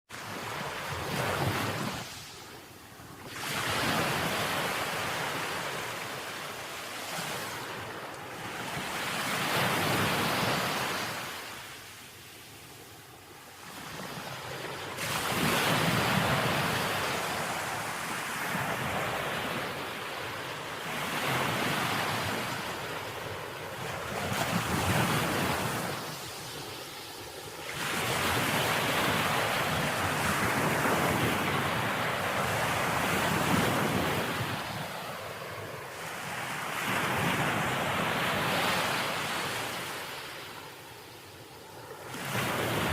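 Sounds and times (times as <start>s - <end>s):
wind: 0.0s - 42.9s
ocean waves breaking: 0.1s - 2.5s, 3.2s - 42.9s.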